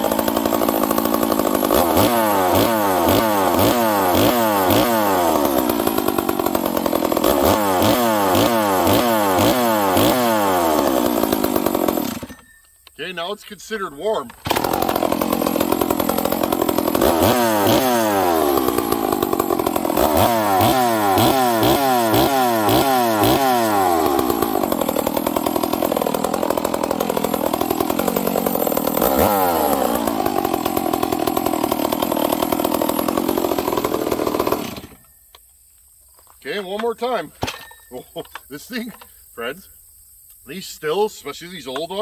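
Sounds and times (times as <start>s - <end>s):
chainsaw engine revving and idling: 0.0s - 12.4s, 13.2s - 35.0s.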